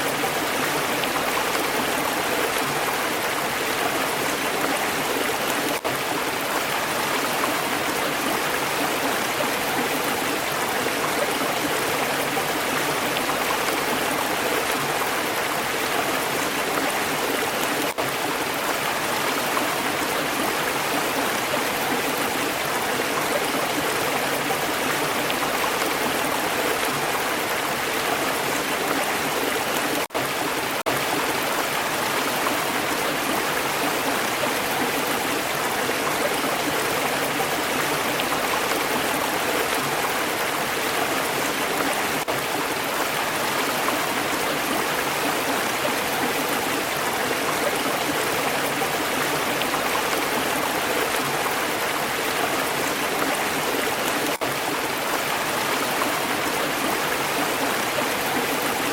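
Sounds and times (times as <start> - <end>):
stream water babbling: 0.0 - 58.9.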